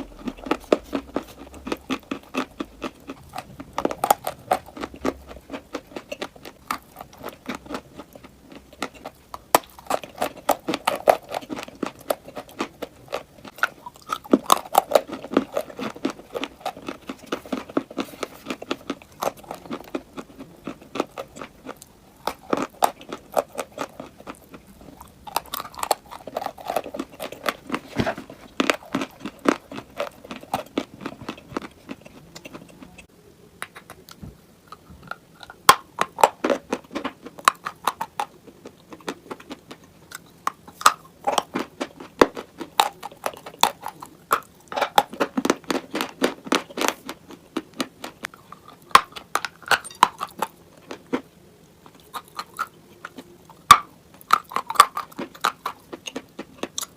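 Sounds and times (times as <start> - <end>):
crunching and chewing brittle pieces: 0.0 - 56.9.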